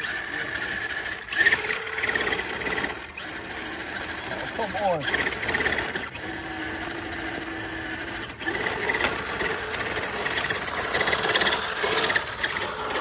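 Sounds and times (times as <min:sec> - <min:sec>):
rc truck motor whining: 0:00.0 - 0:13.0.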